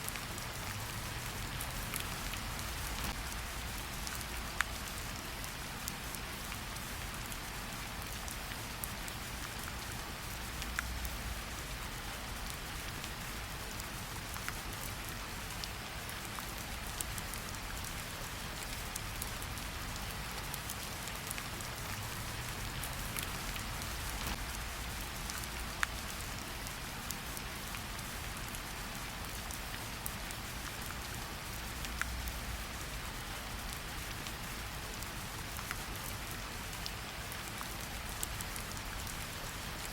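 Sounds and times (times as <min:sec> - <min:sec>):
rain hissing: 0:00.0 - 0:14.3, 0:15.1 - 0:35.6.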